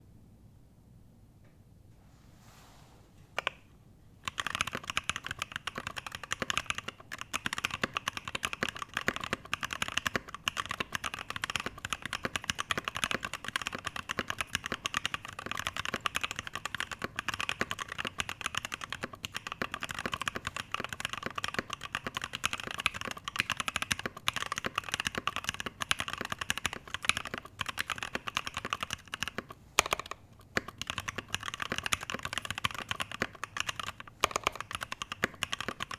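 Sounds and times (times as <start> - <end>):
mechanical keyboard typing: 3.4 - 3.6, 4.2 - 35.9.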